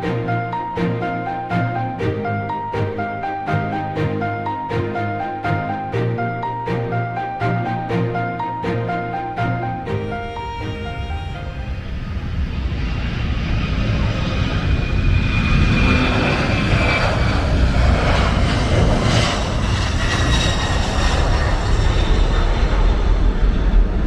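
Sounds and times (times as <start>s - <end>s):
airliner engines whining: 0.0s - 24.0s.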